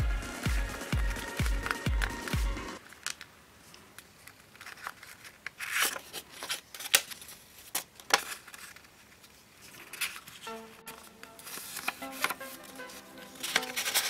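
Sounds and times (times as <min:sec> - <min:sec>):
paper rustling and crinkling: 0:01.6 - 0:14.0.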